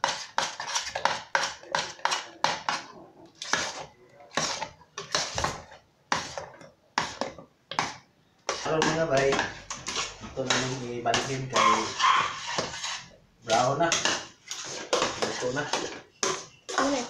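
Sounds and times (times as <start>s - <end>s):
whisk clinking and scraping in pot: 0.0s - 17.0s.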